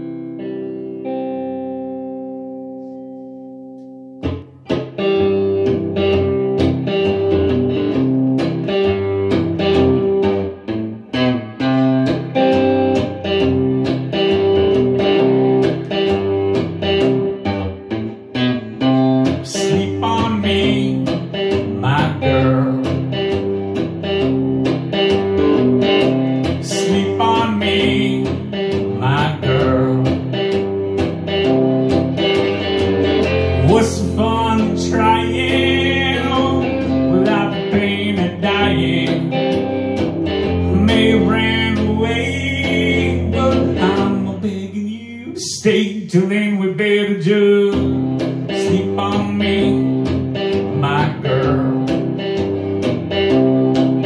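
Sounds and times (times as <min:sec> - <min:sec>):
bending lead guitar melody: 0:00.0 - 0:54.0
electric guitar chords strummed: 0:00.0 - 0:54.0.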